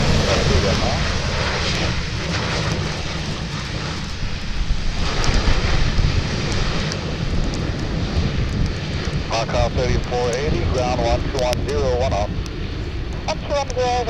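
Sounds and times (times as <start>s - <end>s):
airliner engines rumbling: 0.0s - 14.0s
wind on microphone: 0.0s - 14.0s.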